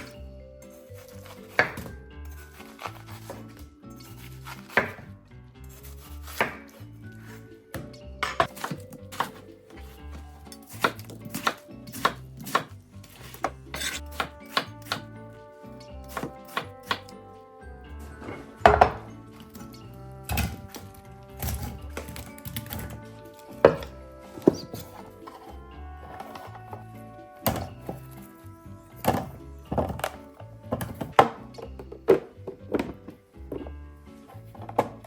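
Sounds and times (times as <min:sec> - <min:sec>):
soft background music: 0:00.0 - 0:35.0
kitchen items knocking and clacking: 0:01.0 - 0:05.2, 0:06.2 - 0:15.1, 0:16.0 - 0:17.2, 0:18.2 - 0:20.8, 0:21.4 - 0:28.2, 0:29.0 - 0:35.0.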